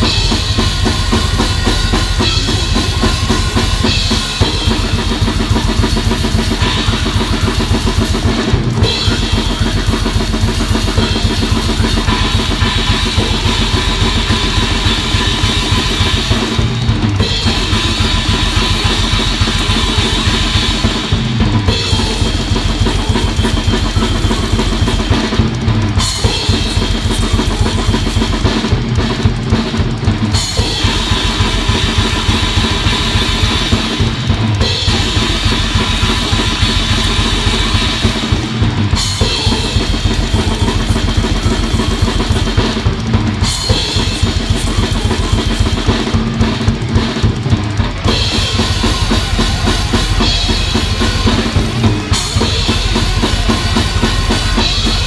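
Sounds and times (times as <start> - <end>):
cymbal wash: 0.0 - 55.0
drum kit played fast: 0.0 - 55.0.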